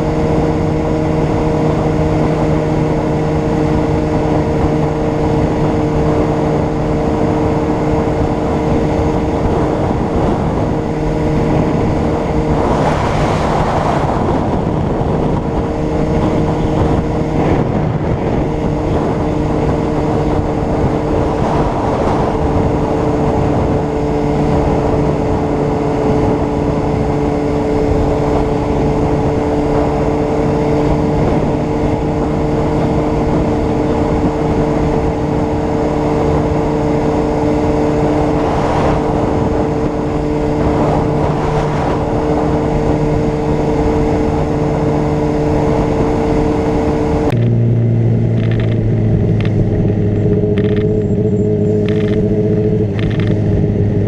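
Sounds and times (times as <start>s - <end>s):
motorcycle engine running: 0.0s - 54.0s
rush of noise: 0.0s - 54.0s.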